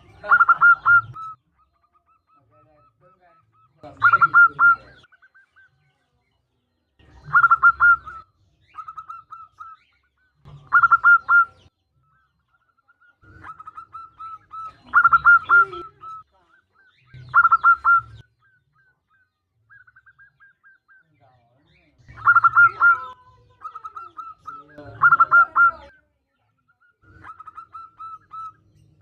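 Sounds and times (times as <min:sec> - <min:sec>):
zebra dove cooing: 0:00.0 - 0:05.8, 0:07.2 - 0:21.0, 0:21.7 - 0:26.0, 0:26.8 - 0:29.0.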